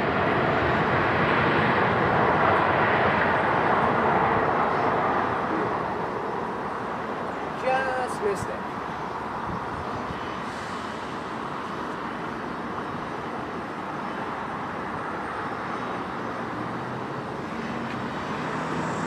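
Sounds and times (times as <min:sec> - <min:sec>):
jet engine rush: 0:00.0 - 0:19.0.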